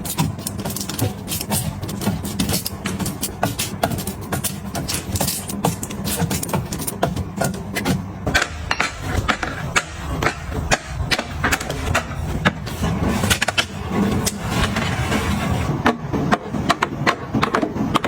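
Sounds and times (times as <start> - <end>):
objects clicking and knocking: 0.0 - 18.0.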